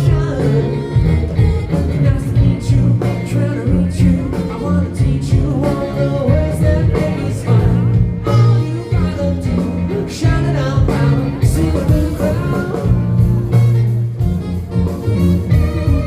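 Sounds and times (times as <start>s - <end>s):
person singing: 0.0s - 13.6s
live blues band playing: 0.0s - 16.0s.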